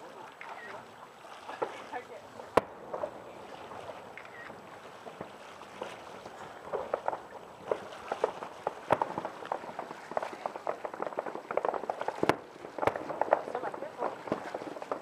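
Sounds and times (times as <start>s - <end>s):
firework bangs: 1.5s - 15.0s
firework crackling: 1.5s - 15.0s.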